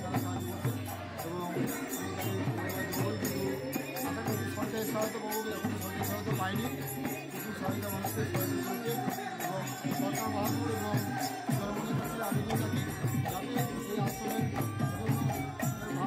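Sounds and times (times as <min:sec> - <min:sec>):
jingling hand percussion: 0:00.0 - 0:16.0.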